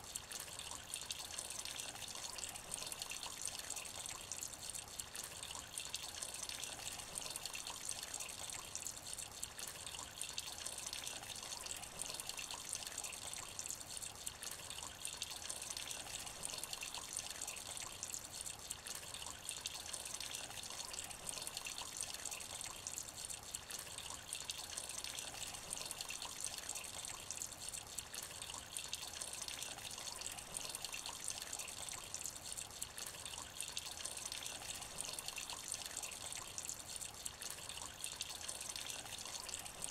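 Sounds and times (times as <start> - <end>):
rain dripping into a puddle: 0.0 - 39.9.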